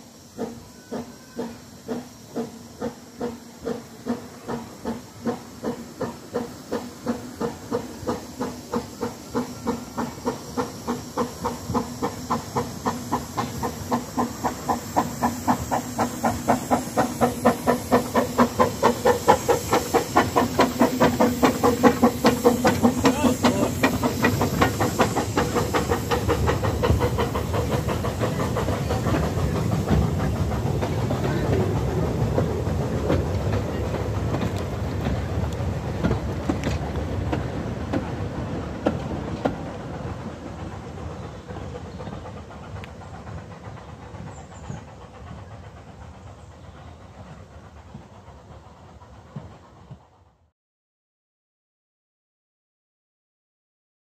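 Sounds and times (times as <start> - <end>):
steam hissing: 0.0 - 50.5
steam locomotive chuffing: 0.0 - 50.5.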